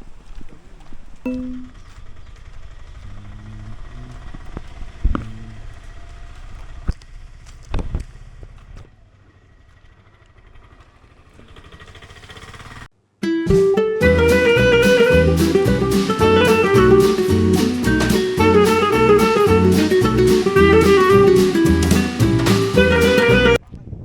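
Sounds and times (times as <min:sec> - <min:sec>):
low vehicle engine rumble: 0:00.0 - 0:12.9, 0:14.0 - 0:23.6.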